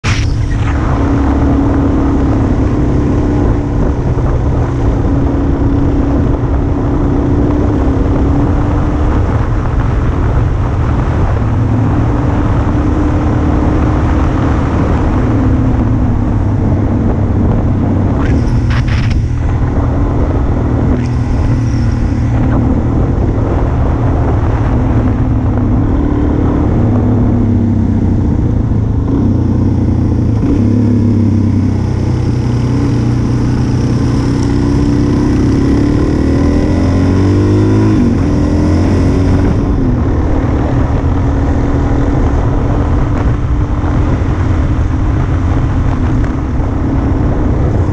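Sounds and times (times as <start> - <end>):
motorcycle engine running: 0.0 - 47.9
rushing wind noise: 0.0 - 47.9.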